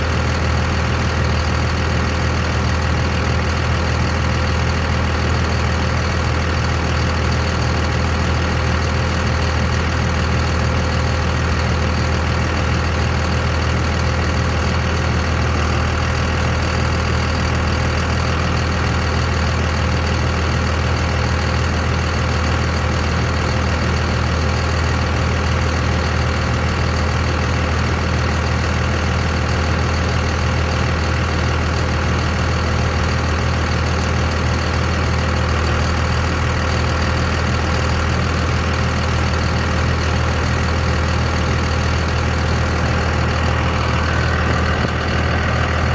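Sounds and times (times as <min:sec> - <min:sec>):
diesel truck engine idling: 0:00.0 - 0:45.9.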